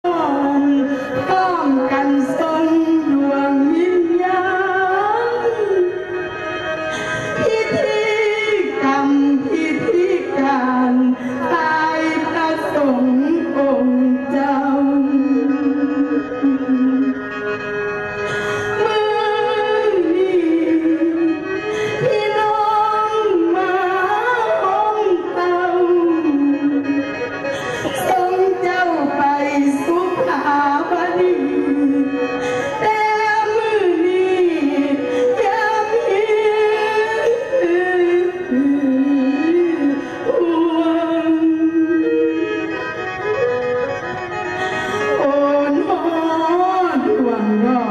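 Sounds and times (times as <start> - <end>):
singing voice: 0.0 - 6.3, 6.9 - 43.9, 44.5 - 47.9
slow melody with sliding notes: 0.1 - 47.9.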